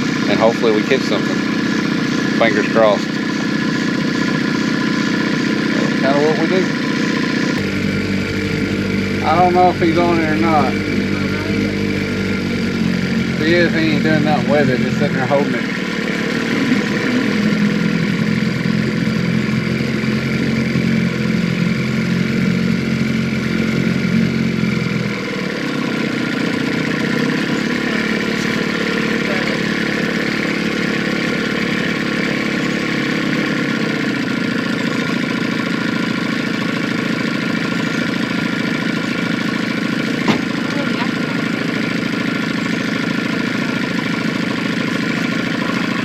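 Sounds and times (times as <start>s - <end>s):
boat motor running: 0.0s - 46.0s.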